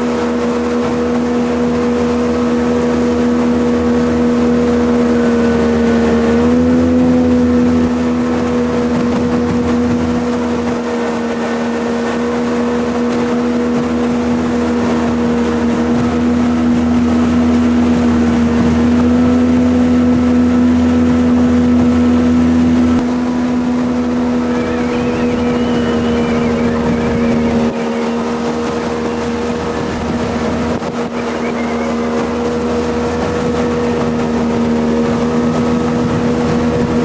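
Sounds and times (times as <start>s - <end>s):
jet boat engine droning: 0.0s - 37.0s
water and wind hiss: 0.0s - 37.0s.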